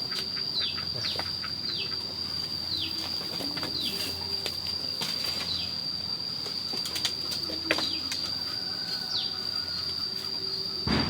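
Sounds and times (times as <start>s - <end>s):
insect trill: 0.0s - 11.0s.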